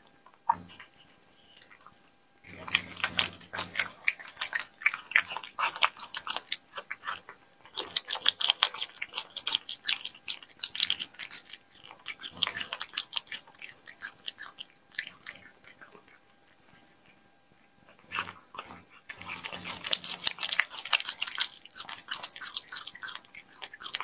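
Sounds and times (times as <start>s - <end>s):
cat chewing raw meat: 0.0s - 24.0s.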